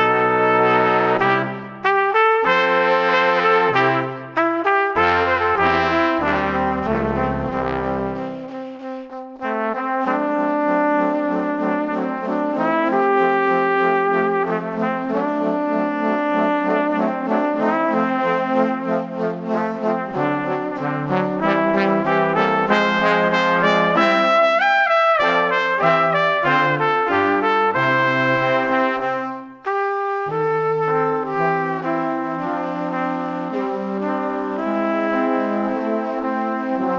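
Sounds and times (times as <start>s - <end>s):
brass background music: 0.0s - 36.9s.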